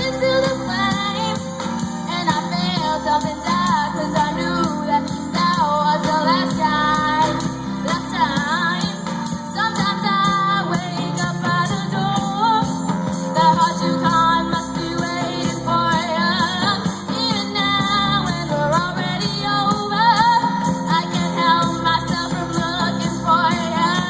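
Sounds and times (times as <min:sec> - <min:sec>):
live band playing pop ballad: 0:00.0 - 0:24.0
woman singing: 0:00.0 - 0:24.0.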